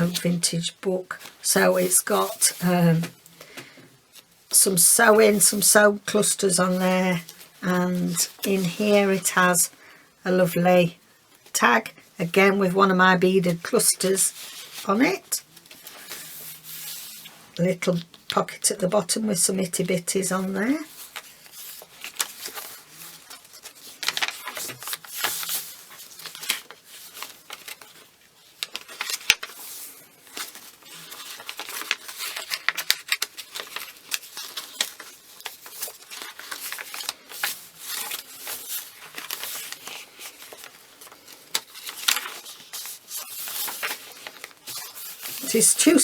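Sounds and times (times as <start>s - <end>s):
paper pages rustling and crinkling: 0.0s - 9.5s, 13.4s - 18.3s, 20.8s - 46.0s.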